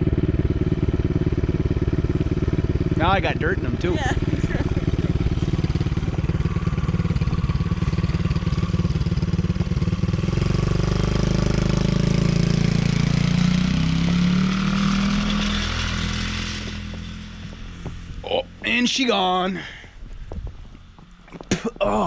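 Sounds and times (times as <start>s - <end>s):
atv engine chugging and revving: 0.0s - 22.0s.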